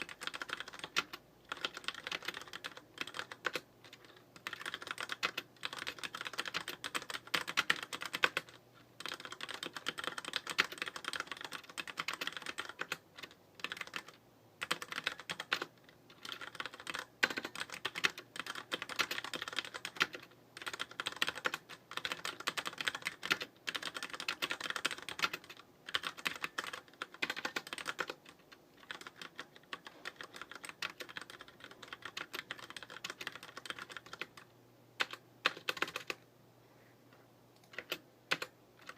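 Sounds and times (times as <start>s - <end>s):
mechanical keyboard typing: 0.0s - 36.2s, 37.6s - 38.9s.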